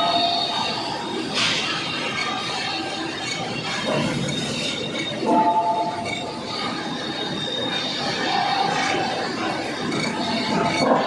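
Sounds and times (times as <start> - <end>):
faint squealing tones: 0.0 - 11.0.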